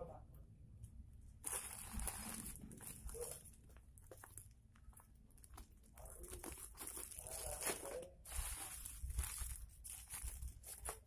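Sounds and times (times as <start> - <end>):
plastic packaging crinkling: 1.4 - 11.0.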